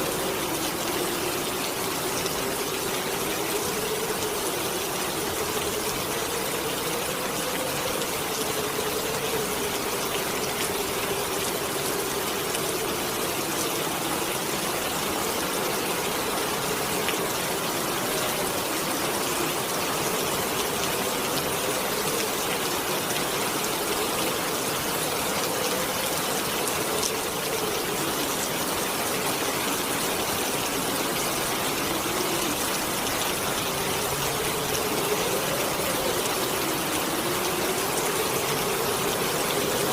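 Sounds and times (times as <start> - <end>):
heavy rain hissing: 0.0 - 39.9
howling wind: 0.0 - 39.9.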